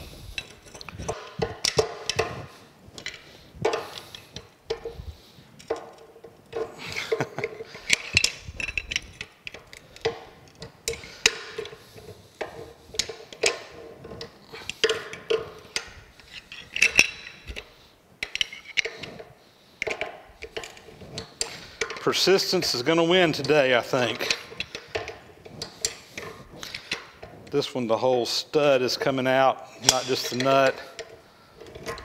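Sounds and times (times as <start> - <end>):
wrench clinking and scraping on nut: 0.0 - 32.0.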